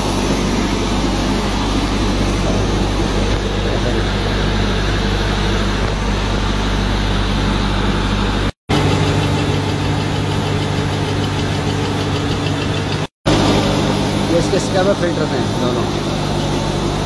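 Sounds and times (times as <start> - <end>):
generator engine humming: 0.0 - 17.0
piston compressor running: 0.0 - 17.0.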